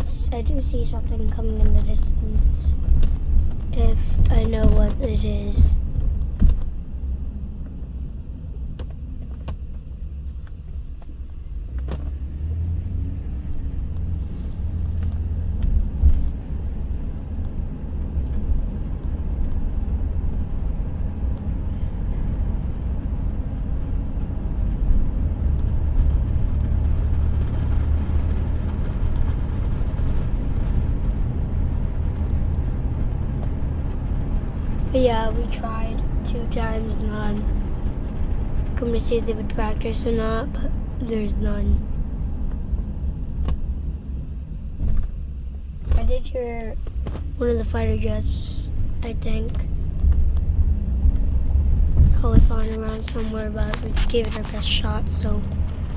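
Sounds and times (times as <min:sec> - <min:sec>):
car cabin rumble: 0:00.0 - 0:55.9.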